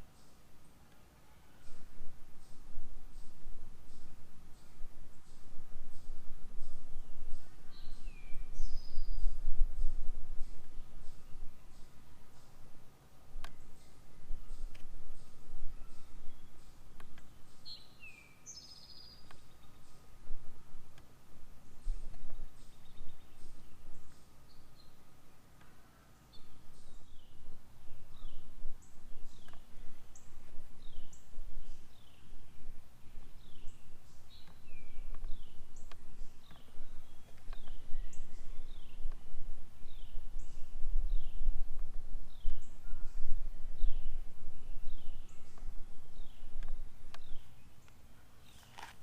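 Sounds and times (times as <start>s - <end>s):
songbirds chirping: 0.0s - 49.0s
low fluttering rumble: 1.6s - 17.9s, 19.1s - 25.4s, 26.3s - 47.8s.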